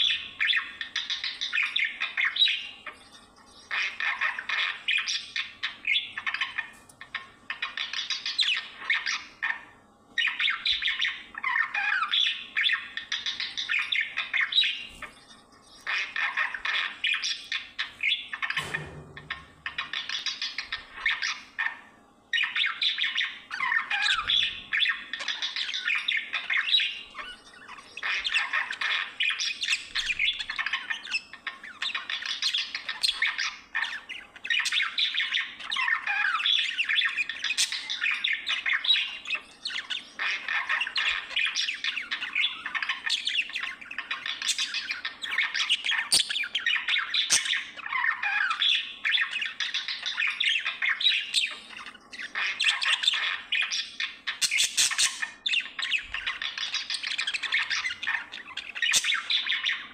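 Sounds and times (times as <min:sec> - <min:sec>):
budgerigar warbling and chattering: 0:00.0 - 0:59.9.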